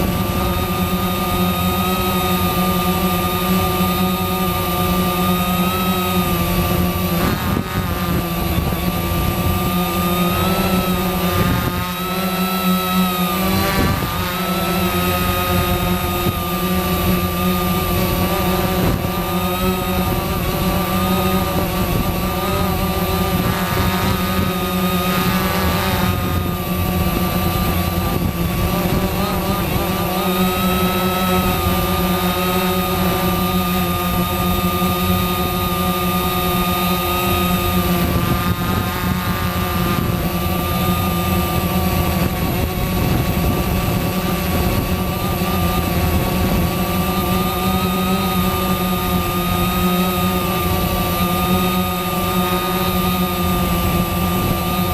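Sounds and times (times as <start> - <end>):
quadcopter motors buzzing: 0.0 - 54.9.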